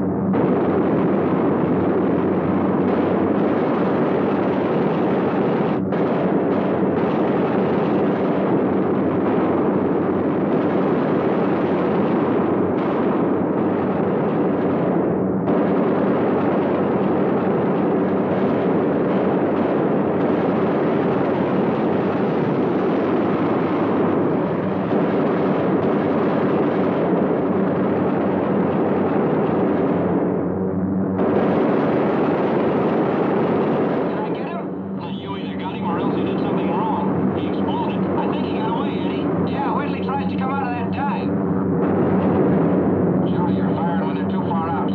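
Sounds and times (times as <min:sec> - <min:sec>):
bomber engines roaring: 0:00.0 - 0:44.9
machine-gun fire: 0:00.0 - 0:44.9.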